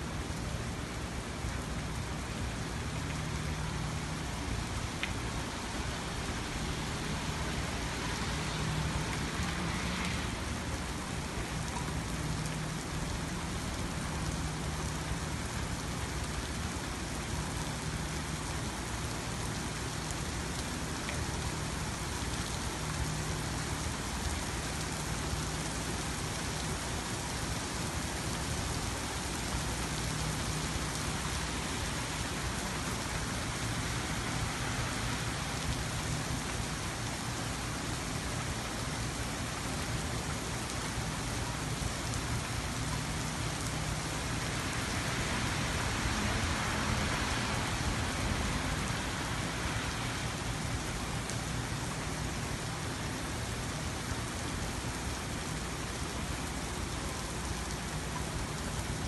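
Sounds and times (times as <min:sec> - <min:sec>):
rain on pavement and cars: 0:00.0 - 0:59.0.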